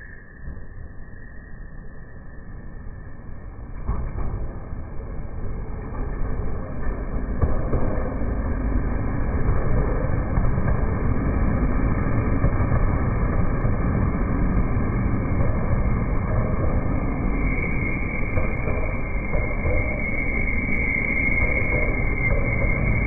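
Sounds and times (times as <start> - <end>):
slowed train wheel rumble: 2.9 - 23.0.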